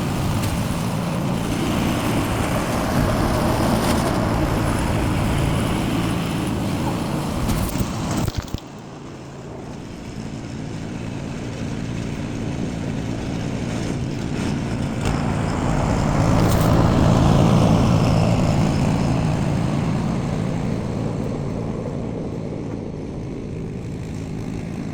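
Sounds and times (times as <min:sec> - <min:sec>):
engine running: 0:00.0 - 0:24.9.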